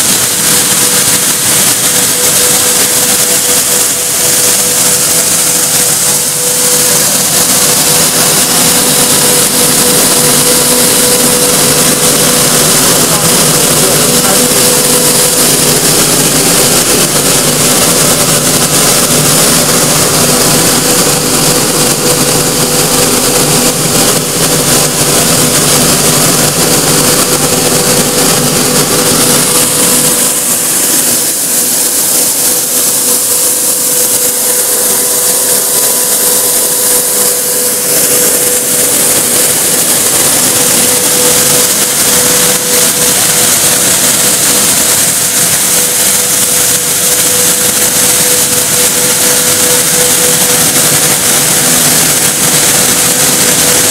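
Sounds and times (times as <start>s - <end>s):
machine hum: 0.0s - 53.9s.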